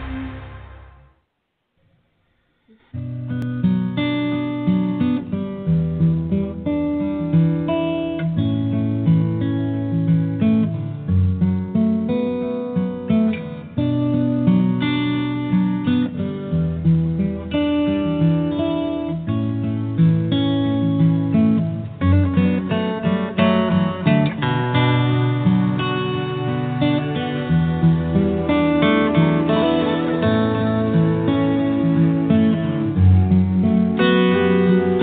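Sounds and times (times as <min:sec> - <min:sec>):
acoustic guitar music: 0:00.0 - 0:01.2, 0:02.7 - 0:35.0.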